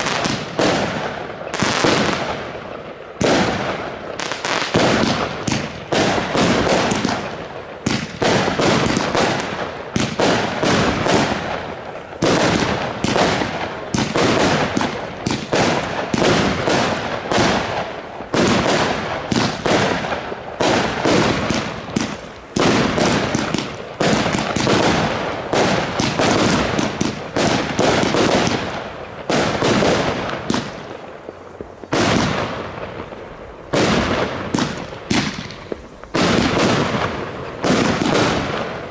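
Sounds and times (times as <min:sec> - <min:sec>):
firework battery shots and bursts: 0:00.0 - 0:38.9.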